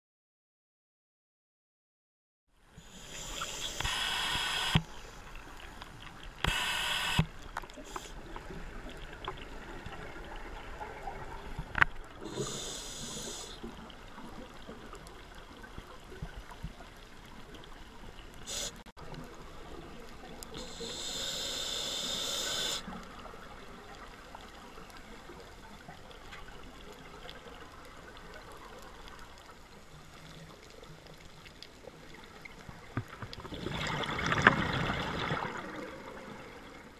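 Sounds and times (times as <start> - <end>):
steady underwater hiss: 2.6 - 33.2
underwater exhaled bubbles: 2.8 - 36.9.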